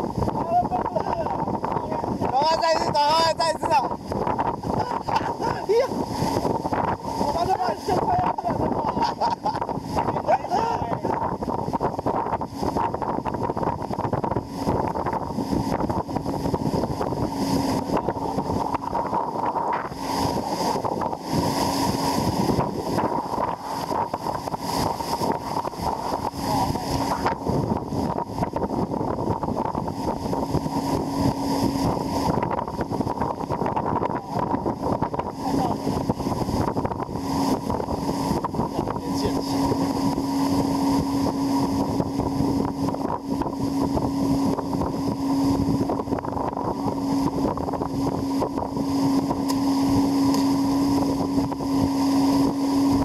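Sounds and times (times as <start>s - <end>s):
speedboat engine drone: 0.0s - 53.0s
water rushing: 0.0s - 53.0s
wind buffeting microphone: 0.0s - 53.0s.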